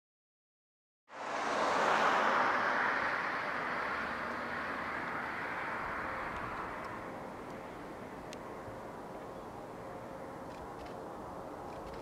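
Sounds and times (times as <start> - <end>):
jet engines at takeoff: 1.1 - 12.0.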